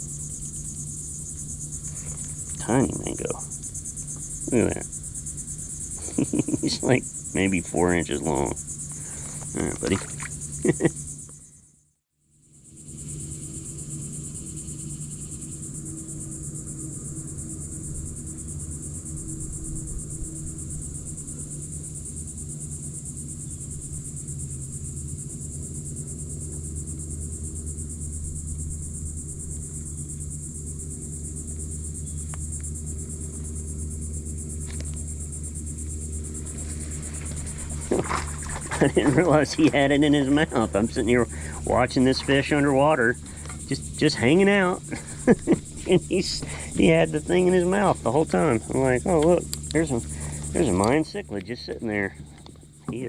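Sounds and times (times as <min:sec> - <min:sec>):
low steady hum: 0:00.0 - 0:11.6, 0:12.6 - 0:53.0
insects chorus: 0:00.0 - 0:53.0.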